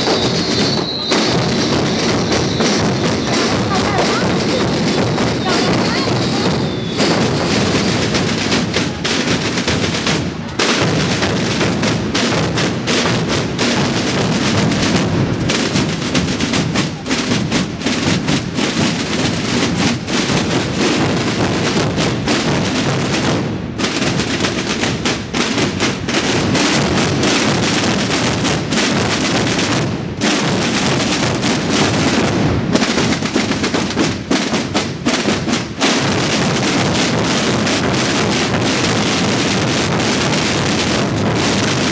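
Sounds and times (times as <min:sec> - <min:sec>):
rolling snare drums: 0:00.0 - 0:41.9.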